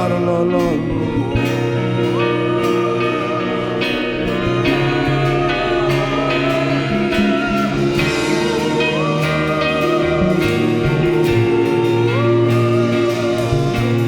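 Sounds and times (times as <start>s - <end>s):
wavering held lead line: 0.0s - 14.0s
worship band music with guitar: 0.0s - 14.0s.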